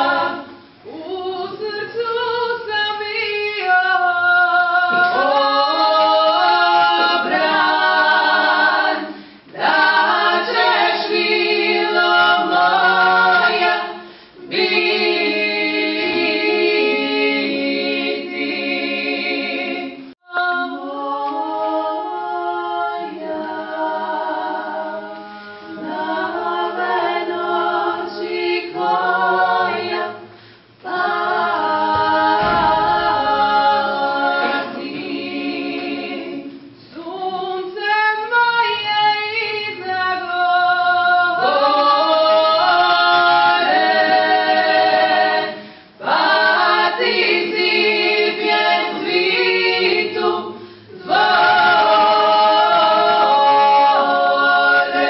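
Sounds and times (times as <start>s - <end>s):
women singing a cappella harmony: 0.0s - 55.0s.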